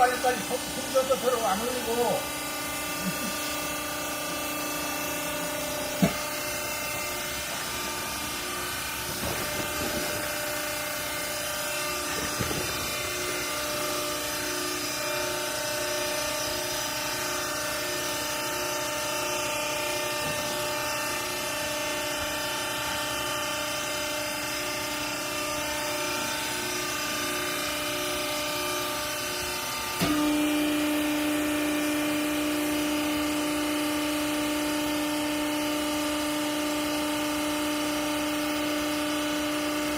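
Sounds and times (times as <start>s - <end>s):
electric motor and pump humming: 0.0s - 39.9s.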